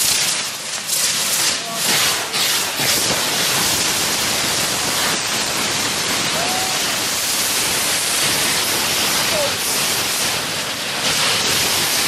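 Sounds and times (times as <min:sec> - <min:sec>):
rockets firing with rushing hiss: 0:00.0 - 0:12.0.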